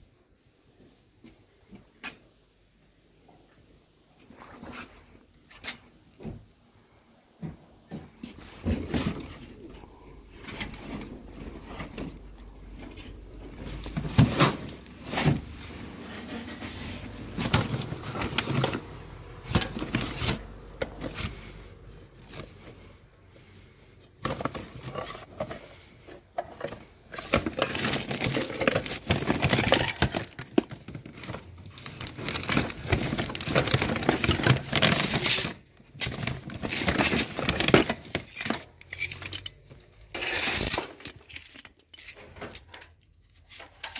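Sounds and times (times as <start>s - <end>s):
plastic bags rustling and crinkling: 0.0s - 43.9s.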